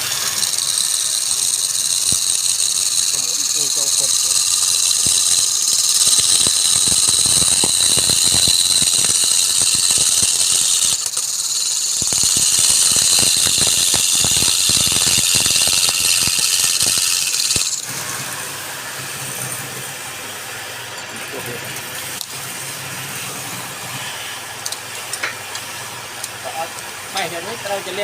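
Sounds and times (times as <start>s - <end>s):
lathe tool screeching on workpiece: 0.0s - 24.5s.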